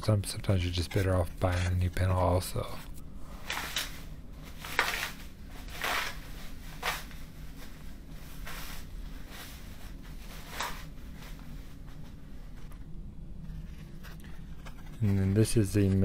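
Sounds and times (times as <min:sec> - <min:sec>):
plastic bag rustling: 0:00.6 - 0:15.9.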